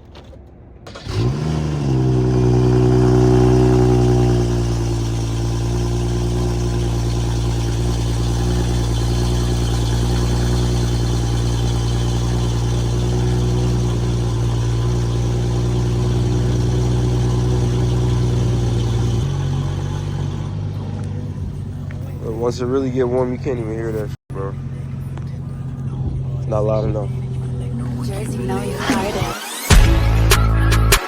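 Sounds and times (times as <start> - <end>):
car engine idling: 0.1 - 31.0.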